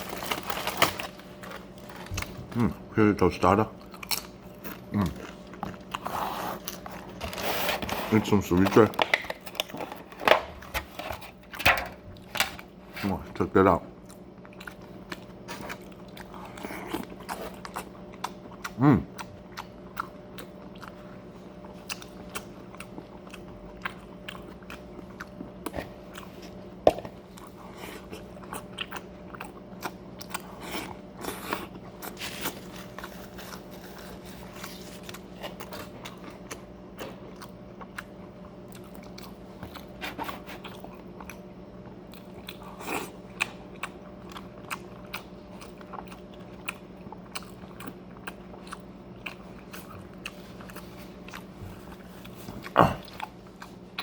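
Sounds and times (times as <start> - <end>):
chewing and crunching: 0.0 - 54.0
steady low hum: 0.0 - 54.0.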